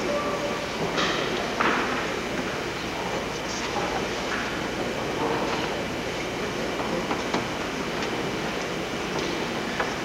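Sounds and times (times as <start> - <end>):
crowd murmur: 0.0 - 10.0.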